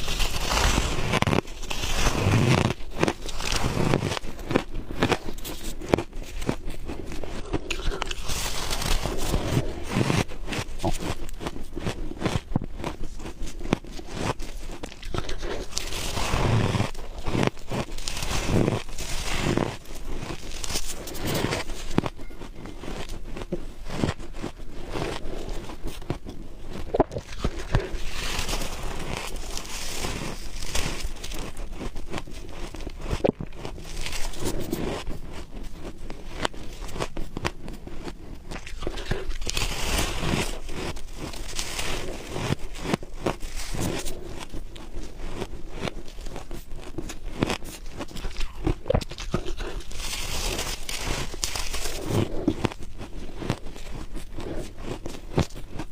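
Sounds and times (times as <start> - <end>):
chewing crunchy frost: 0.0 - 55.9.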